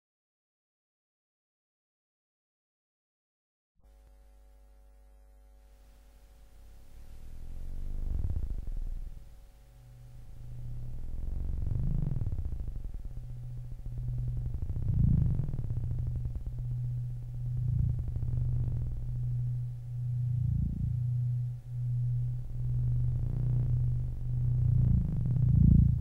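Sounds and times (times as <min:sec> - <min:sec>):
low synthesizer drone: 0:04.0 - 0:26.0.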